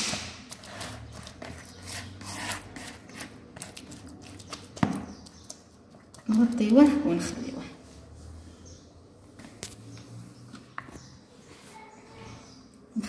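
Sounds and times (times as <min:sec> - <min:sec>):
hand squelching wet dough: 0:00.0 - 0:11.8.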